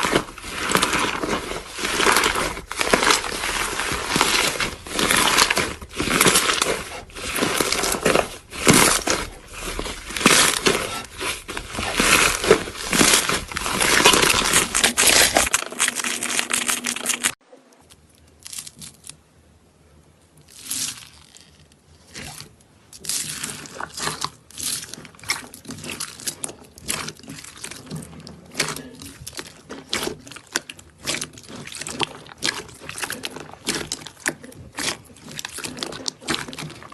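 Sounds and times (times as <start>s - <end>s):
close crackling and crunching: 0.0s - 19.2s, 20.4s - 36.9s.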